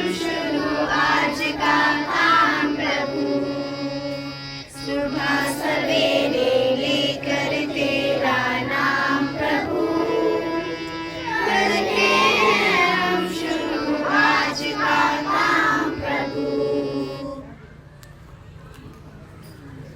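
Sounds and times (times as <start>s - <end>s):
children singing a prayer song: 0.0s - 17.5s.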